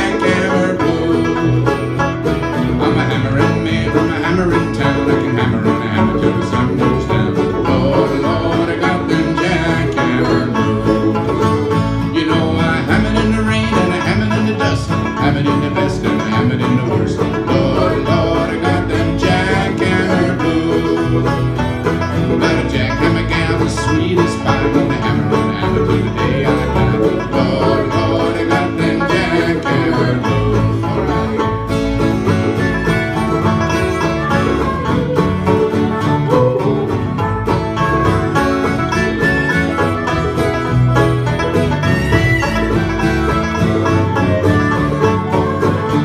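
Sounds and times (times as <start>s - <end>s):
banjo picking: 0.0s - 46.0s
strummed acoustic guitars: 0.0s - 46.0s.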